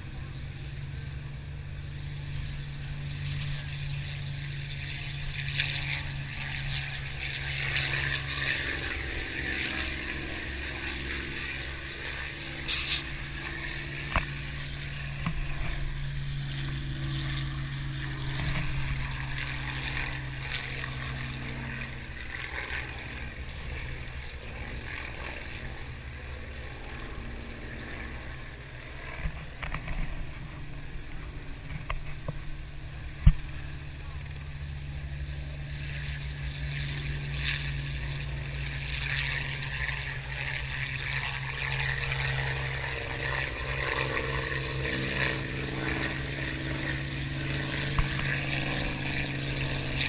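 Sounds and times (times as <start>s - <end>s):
propeller aircraft droning overhead: 0.0s - 50.0s.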